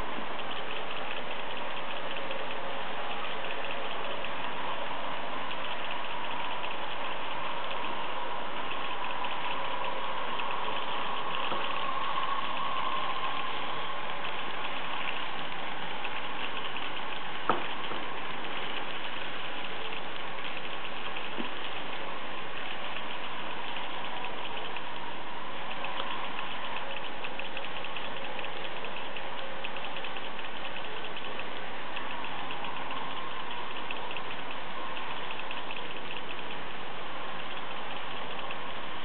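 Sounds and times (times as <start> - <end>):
model train hum: 0.0 - 39.0.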